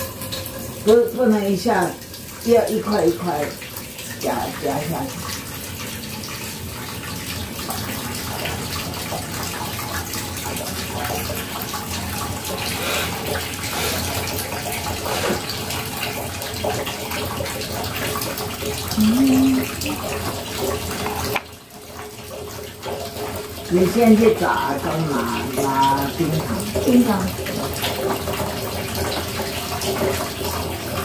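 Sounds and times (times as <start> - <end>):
tap running water: 0.0 - 31.0.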